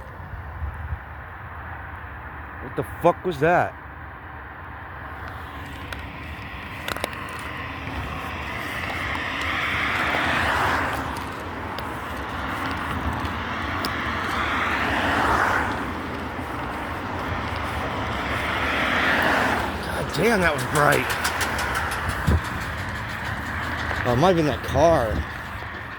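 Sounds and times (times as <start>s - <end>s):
cars passing by: 0.0s - 25.9s.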